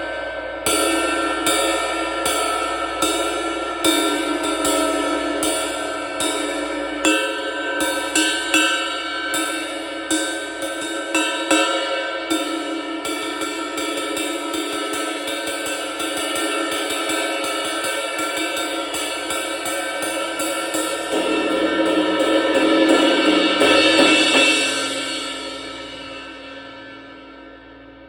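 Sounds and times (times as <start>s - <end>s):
cymbal washing with rapid strokes: 0.0s - 26.4s.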